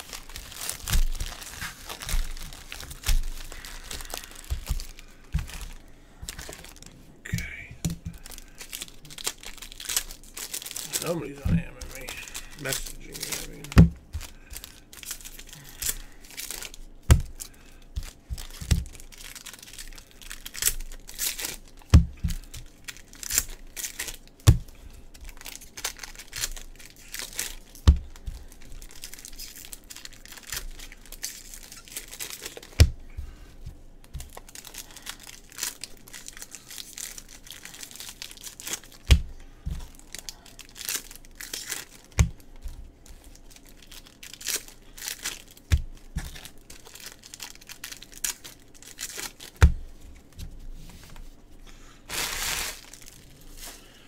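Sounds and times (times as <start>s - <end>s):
foil packs tearing and crinkling: 0.0s - 6.9s, 8.1s - 33.3s, 34.0s - 50.4s, 52.1s - 54.0s.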